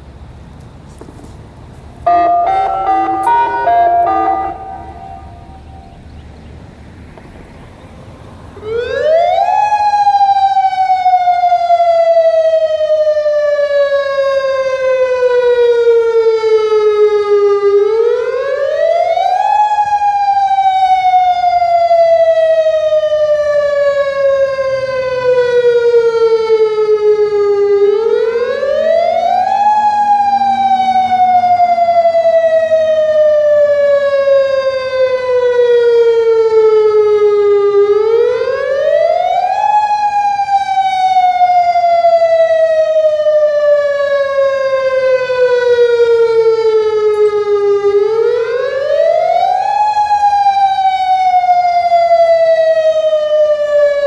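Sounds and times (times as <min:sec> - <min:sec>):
electronic warning siren: 0:02.1 - 0:06.1, 0:08.6 - 0:54.0.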